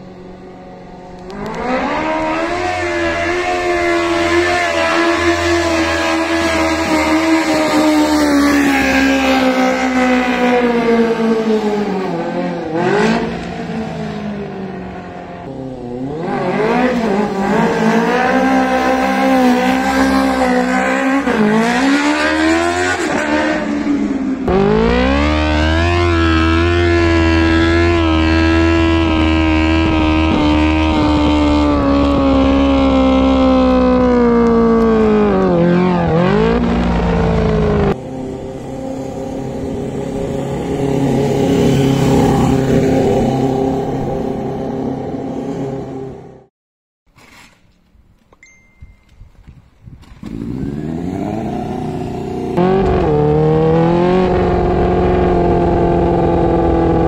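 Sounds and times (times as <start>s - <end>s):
motorcycle engine revving: 0.0s - 46.5s, 50.0s - 57.0s.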